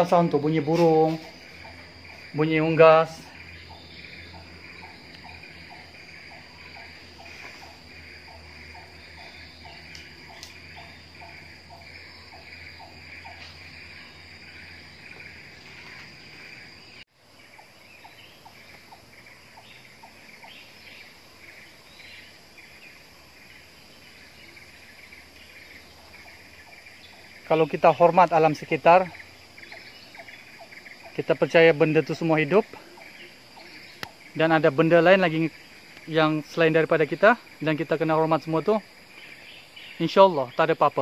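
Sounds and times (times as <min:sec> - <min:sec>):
high drone of insects: 0:00.0 - 0:41.0
insects chirping: 0:00.0 - 0:41.0.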